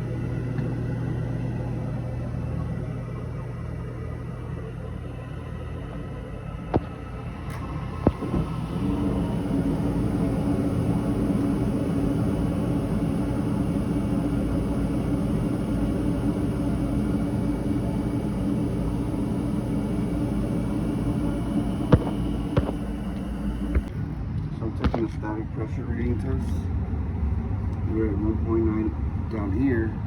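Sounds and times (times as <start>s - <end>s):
furnace blower humming: 0.0s - 24.2s.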